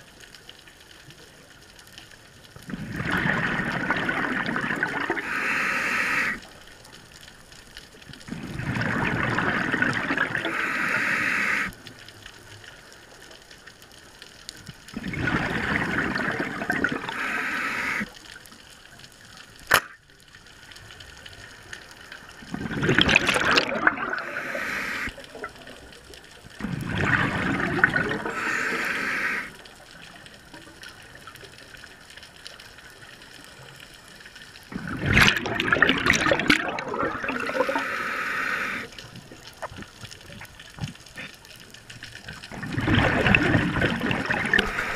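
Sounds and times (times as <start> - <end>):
underwater bubbles gurgling: 0.0 - 44.9.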